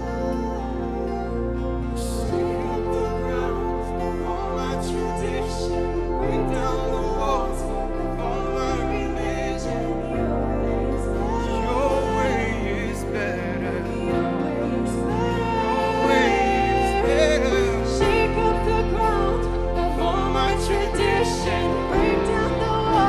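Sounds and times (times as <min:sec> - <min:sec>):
keyboard chords and bass: 0:00.0 - 0:23.0
person singing long notes: 0:00.0 - 0:23.0.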